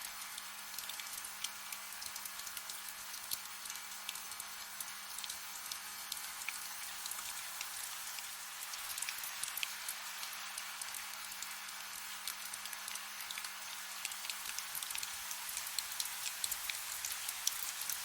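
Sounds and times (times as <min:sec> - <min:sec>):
soft rain hissing: 0:00.0 - 0:18.0.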